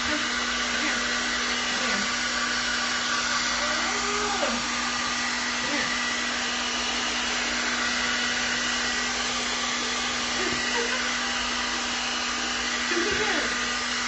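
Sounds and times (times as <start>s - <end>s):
blow dryer running: 0.0s - 14.0s.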